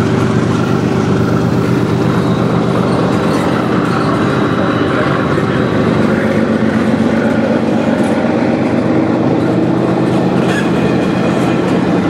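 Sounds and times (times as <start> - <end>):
steady whining tones: 0.0 - 12.0
train wheels rumbling on rails: 0.0 - 12.0.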